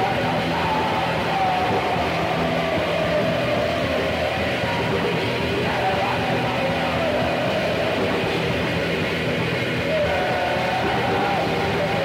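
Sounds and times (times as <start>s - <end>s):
distorted black metal music: 0.0s - 12.0s.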